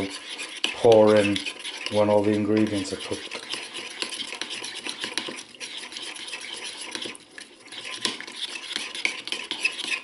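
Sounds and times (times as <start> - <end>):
metal spoon stirring in ceramic bowl: 0.0 - 10.0.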